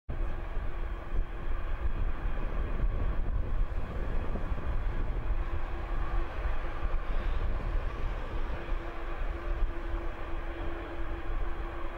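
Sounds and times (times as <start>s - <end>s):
jet engines deep rumble: 0.1s - 11.9s.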